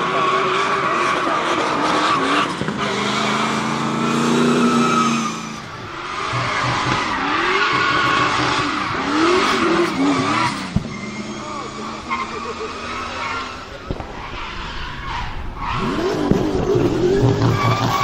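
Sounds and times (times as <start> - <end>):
car engine revving: 0.0 - 18.0
tyres squealing: 1.9 - 18.0.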